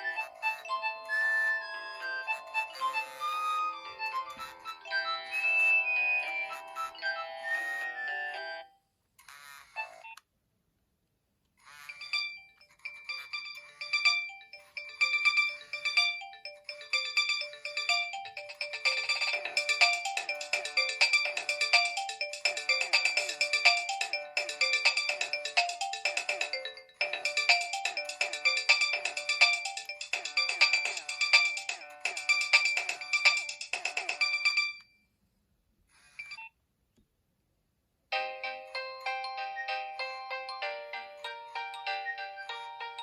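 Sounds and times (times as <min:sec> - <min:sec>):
phone ringtone melody: 0:00.0 - 0:08.8, 0:11.7 - 0:35.0, 0:38.1 - 0:43.0.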